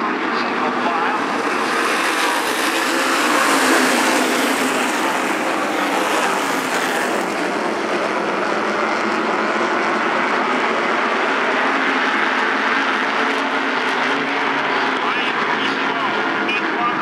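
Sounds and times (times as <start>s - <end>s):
race cars racing past: 0.0s - 17.0s.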